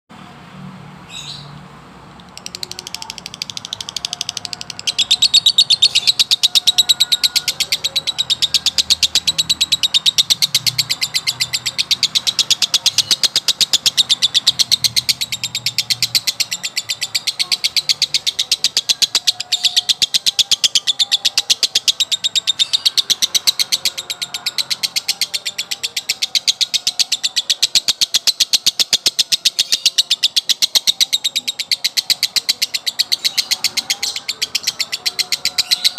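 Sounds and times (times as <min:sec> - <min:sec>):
lovebird chattering high chirps: 0:02.2 - 0:35.9.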